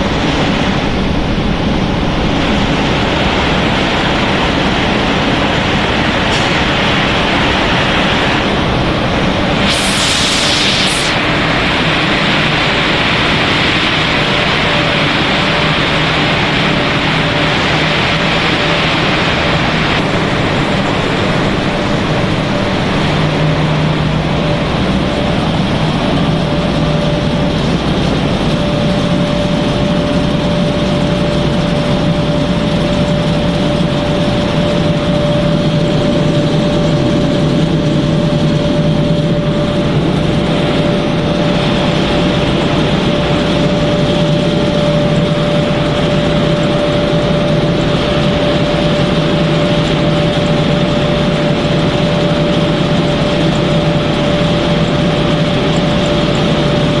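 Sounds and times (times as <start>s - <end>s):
machinery drone and hum: 0.0s - 57.0s.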